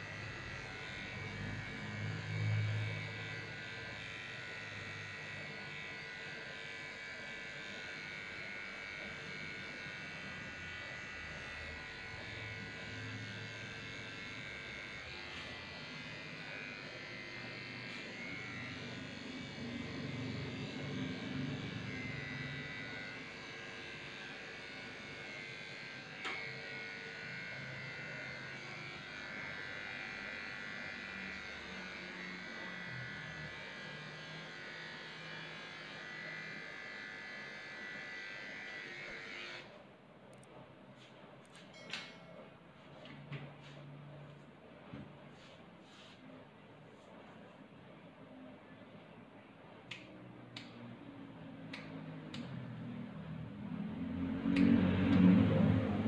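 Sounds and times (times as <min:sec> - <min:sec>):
electric clippers motor hum: 0:00.0 - 0:39.8, 0:49.9 - 0:56.0.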